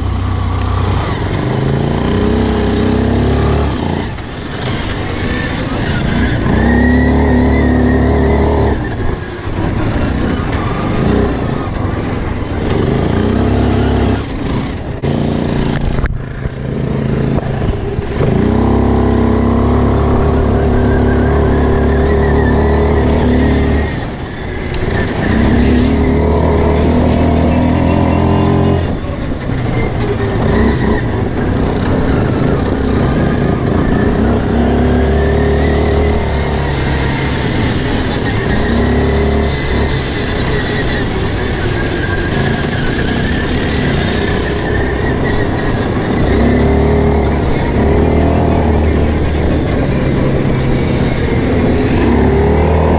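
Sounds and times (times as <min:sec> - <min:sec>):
quad bike engine revving: 0:00.0 - 0:52.9.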